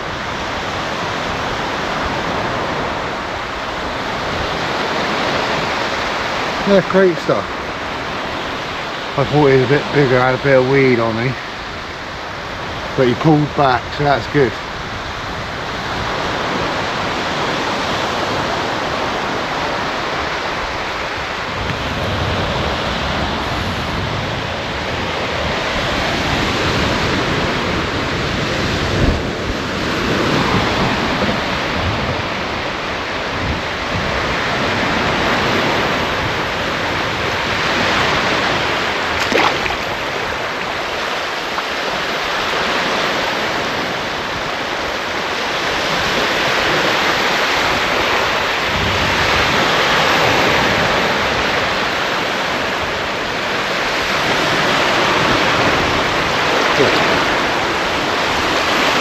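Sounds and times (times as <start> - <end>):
surf breaking on beach: 0.0 - 59.0.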